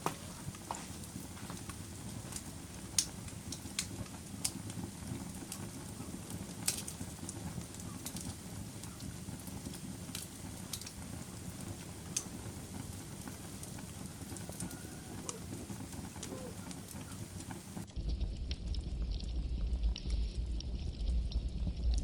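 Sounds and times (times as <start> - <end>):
campfire flame rushing: 0.0 - 22.0
wood crackling and popping: 0.0 - 22.0.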